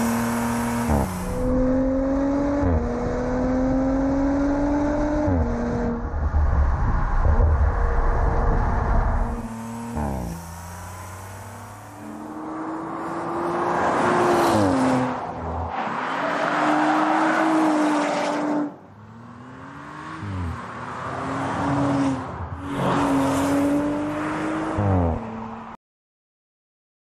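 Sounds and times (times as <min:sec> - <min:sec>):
car engine accelerating with upshifts: 0:00.0 - 0:25.8.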